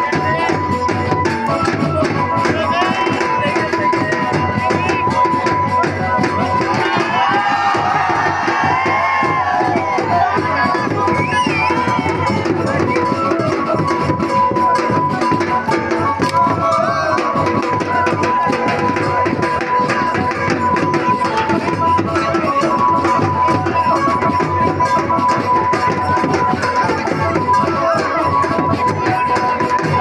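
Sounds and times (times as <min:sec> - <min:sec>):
fast dense drumming: 0:00.0 - 0:30.0.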